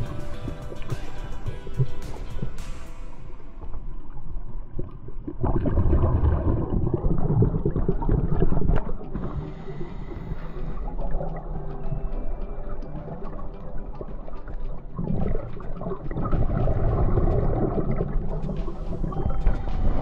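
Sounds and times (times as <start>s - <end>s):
underwater bubbles gurgling: 3.4s - 20.0s.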